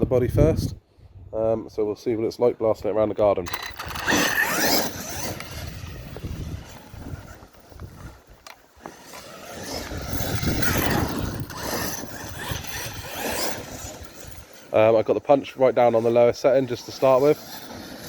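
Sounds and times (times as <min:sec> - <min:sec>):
rc truck motor and tyres: 0:03.4 - 0:18.0.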